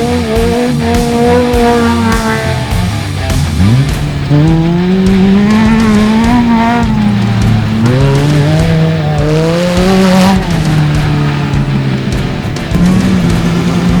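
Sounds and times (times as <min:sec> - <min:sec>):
race vehicle engine revving: 0:00.0 - 0:14.0.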